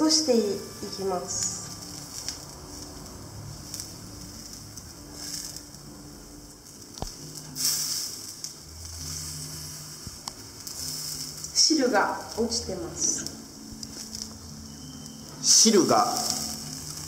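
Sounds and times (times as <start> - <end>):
crepe sizzling in a pan: 0.0 - 17.0.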